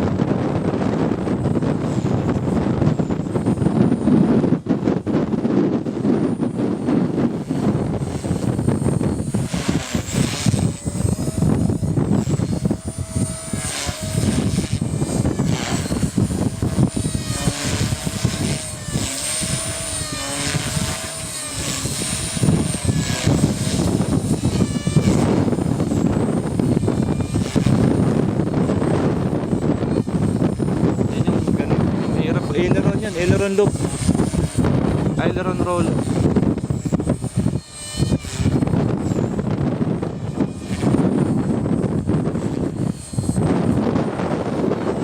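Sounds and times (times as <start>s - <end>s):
model helicopter motor whining: 0.0s - 45.0s
wind rumble on microphone: 0.0s - 45.0s.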